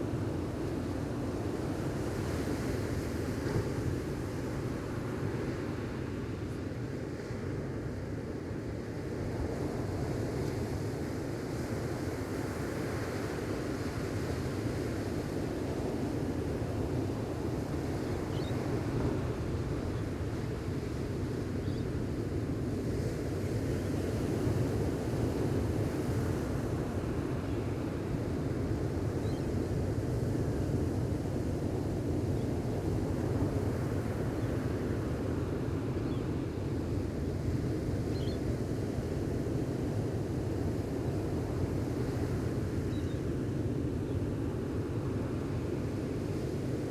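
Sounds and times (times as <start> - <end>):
ocean waves washing ashore: 0.0 - 46.9.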